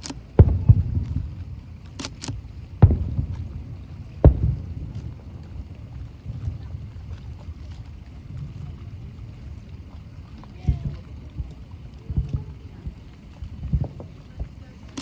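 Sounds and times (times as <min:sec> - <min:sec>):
firework shells booming: 0:00.0 - 0:09.2, 0:09.8 - 0:15.0
firework pops and crackles: 0:00.0 - 0:15.0.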